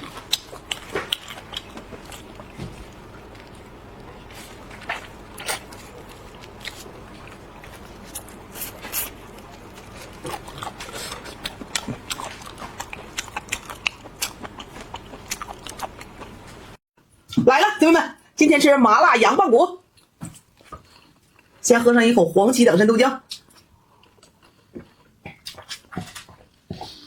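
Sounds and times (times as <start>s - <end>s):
person chewing crunchy food: 0.0s - 16.8s, 19.9s - 21.6s, 23.3s - 27.0s.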